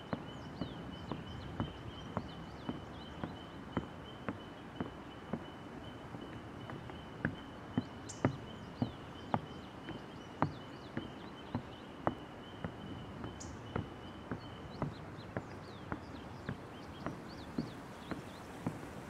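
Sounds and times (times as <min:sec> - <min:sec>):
birds chirping: 0:00.0 - 0:19.0
footsteps on wooden bridge: 0:00.0 - 0:19.0.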